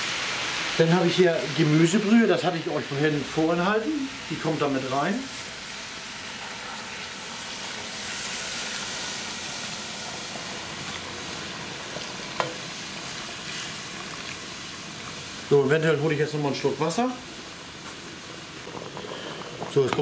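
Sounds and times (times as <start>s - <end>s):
broth hissing in hot pan: 0.0s - 20.0s.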